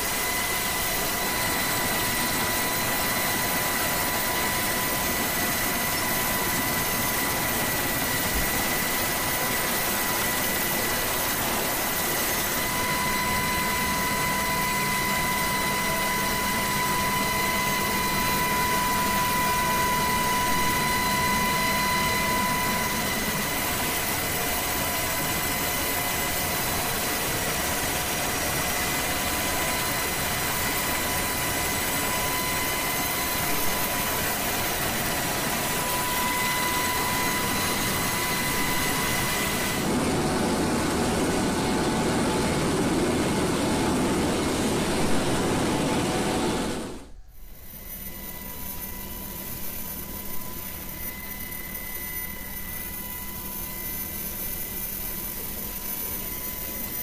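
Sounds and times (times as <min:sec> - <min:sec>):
helicopter turbine engines whining: 0:00.0 - 0:57.0.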